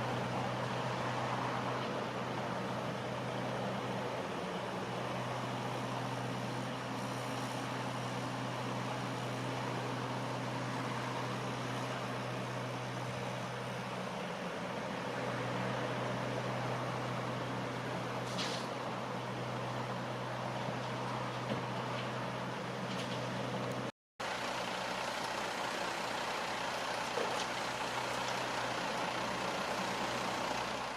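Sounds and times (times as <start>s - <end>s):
diesel machinery running: 0.0s - 30.9s.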